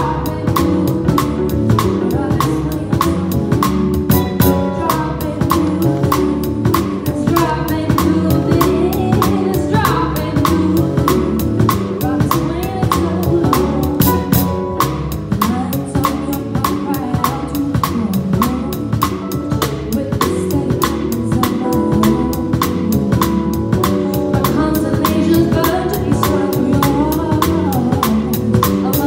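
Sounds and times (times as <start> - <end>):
drum kit cymbal beat: 0.0 - 29.0
electric bass: 0.0 - 29.0
keyboard: 0.0 - 29.0.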